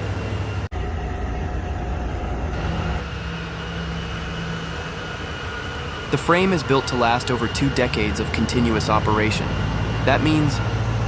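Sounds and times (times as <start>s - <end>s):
heavy diesel machinery rumbling: 0.0s - 11.0s
steady low hum: 0.0s - 11.0s.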